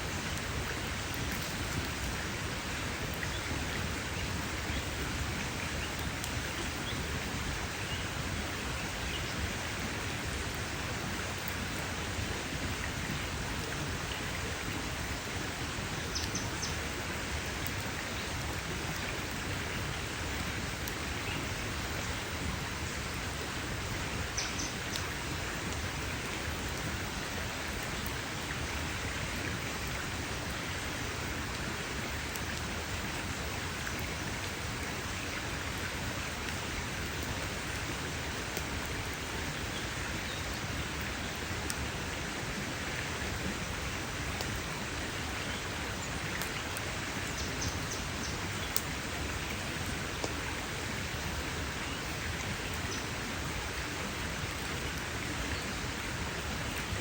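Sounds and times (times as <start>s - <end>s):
campfire crackling and hissing: 0.0s - 57.0s.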